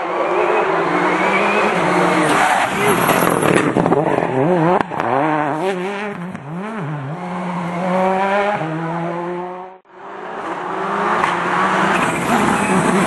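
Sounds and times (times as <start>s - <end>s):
rally car engine revving: 0.2s - 13.0s
car engine building revs: 0.6s - 13.0s.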